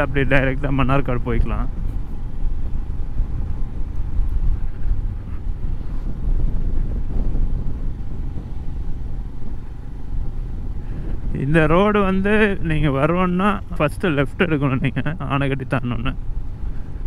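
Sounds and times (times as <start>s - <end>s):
motorcycle engine rumble: 0.0s - 17.0s
wind on microphone: 0.0s - 17.0s.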